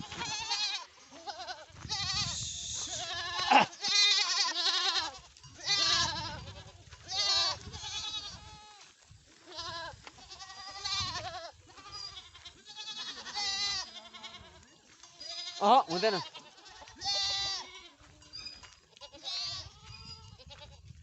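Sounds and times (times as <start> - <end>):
goats bleating: 0.0 - 18.3, 18.9 - 20.8.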